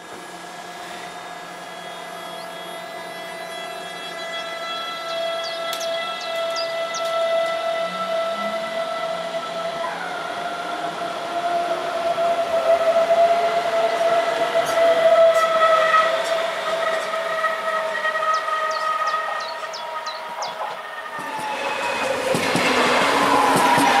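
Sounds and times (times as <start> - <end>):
electric train whine: 0.0 - 24.0
passing train rushing: 0.0 - 24.0.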